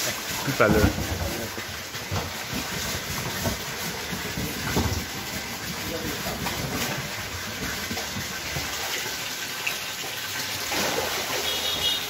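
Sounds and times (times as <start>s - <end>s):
water gushing and splashing: 0.0s - 12.0s.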